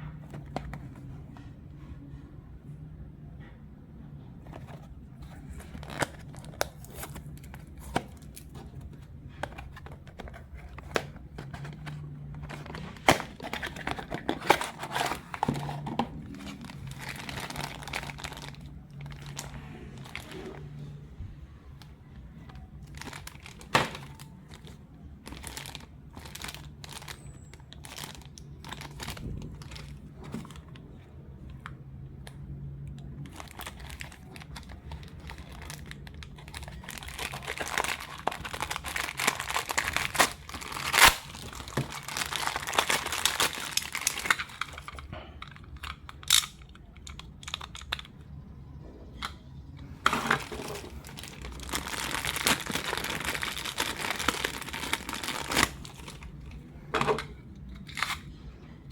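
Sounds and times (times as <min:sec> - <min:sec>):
packaging crinkling and tearing: 0:04.4 - 0:20.8, 0:22.4 - 0:31.6, 0:32.2 - 0:48.1, 0:50.0 - 0:56.6, 0:57.6 - 0:58.4.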